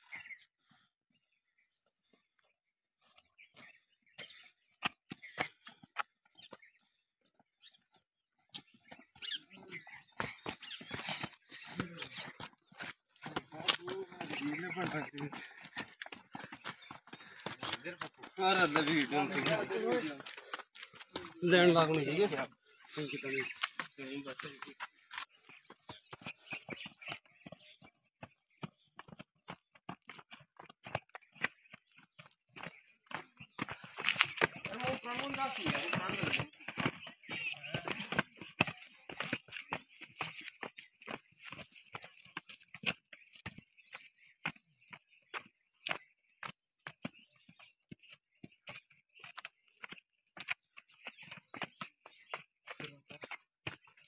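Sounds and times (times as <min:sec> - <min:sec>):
footsteps on concrete steps: 0:00.0 - 0:54.0.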